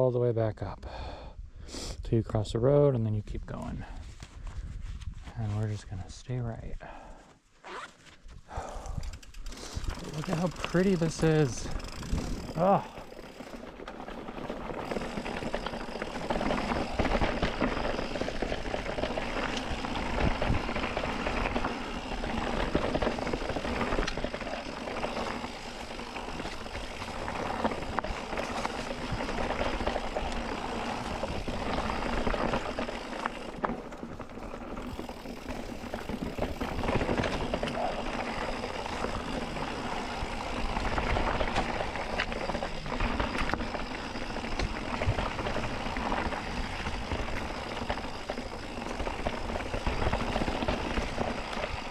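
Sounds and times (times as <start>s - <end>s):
bike tyres rolling on dirt: 2.2s - 51.9s
bike knocking and rattling: 8.6s - 51.9s.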